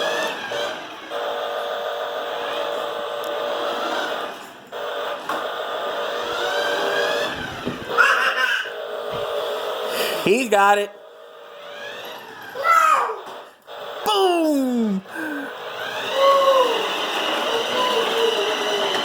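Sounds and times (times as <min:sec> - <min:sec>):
toy electric motor whining: 0:00.0 - 0:19.0.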